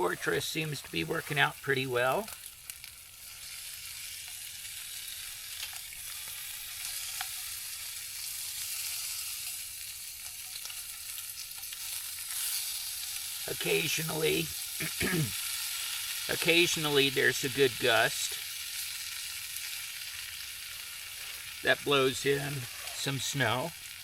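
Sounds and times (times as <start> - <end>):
bacon sizzling in a pan: 0.0 - 24.0.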